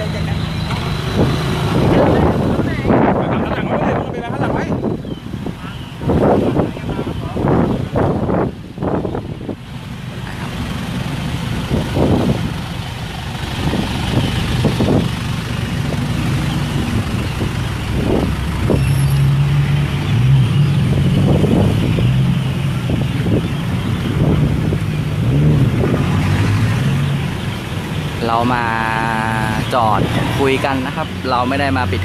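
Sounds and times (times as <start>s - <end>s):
vehicle engines running: 0.0s - 32.0s.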